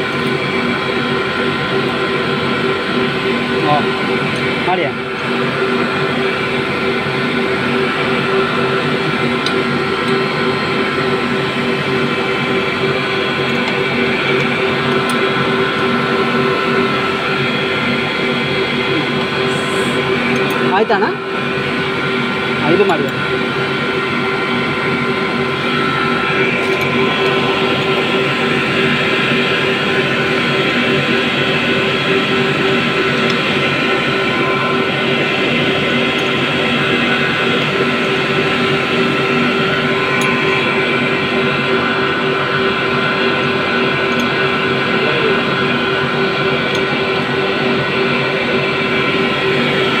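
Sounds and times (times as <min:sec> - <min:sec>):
machine drone with held tones: 0:00.0 - 0:50.0.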